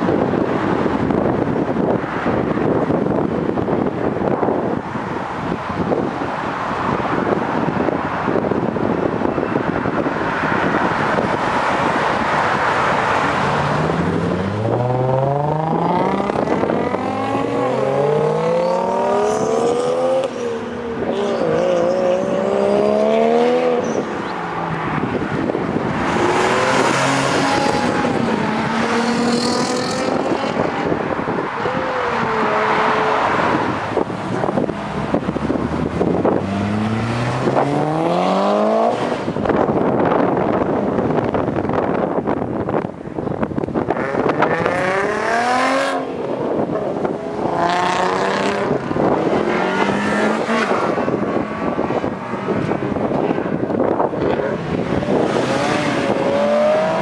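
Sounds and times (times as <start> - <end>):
cars accelerating and revving: 0.0 - 57.0
wind buffeting microphone: 0.0 - 57.0.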